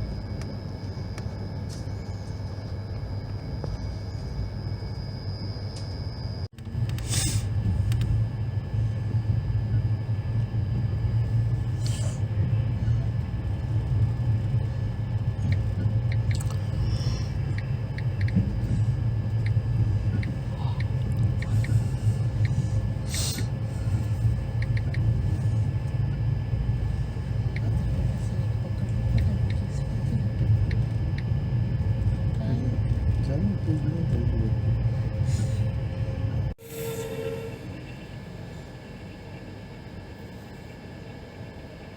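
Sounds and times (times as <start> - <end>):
train coach rumbling: 0.0 - 41.9.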